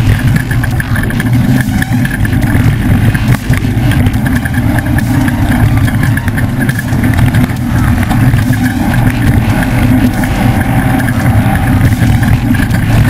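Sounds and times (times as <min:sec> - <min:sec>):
fast higher clicking: 0:00.0 - 0:13.0
truck engine droning: 0:00.0 - 0:13.0.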